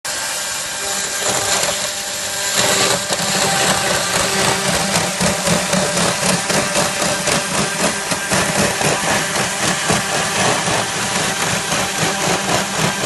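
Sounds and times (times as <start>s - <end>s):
power tool running: 0.1s - 13.0s.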